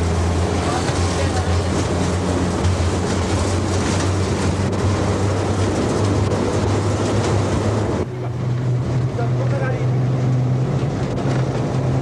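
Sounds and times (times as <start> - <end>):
diesel locomotive engine hum: 0.0 - 12.0.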